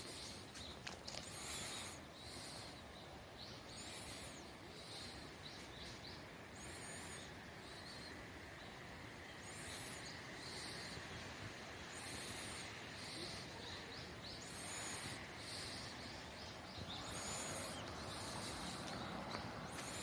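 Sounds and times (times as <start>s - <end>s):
faint high chirping calls: 0.0s - 20.0s
steady low hiss: 0.0s - 20.0s.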